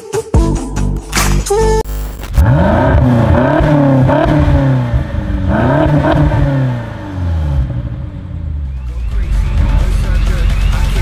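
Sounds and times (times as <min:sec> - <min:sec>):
car engine revving: 0:01.9 - 0:11.0.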